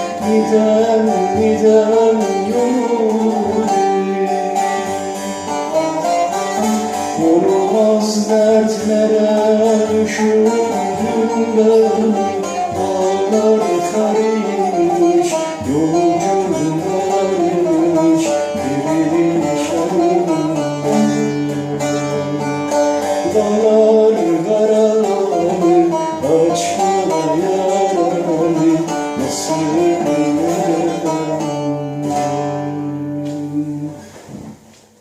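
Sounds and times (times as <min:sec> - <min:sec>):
plucked string instruments: 0:00.0 - 0:35.0.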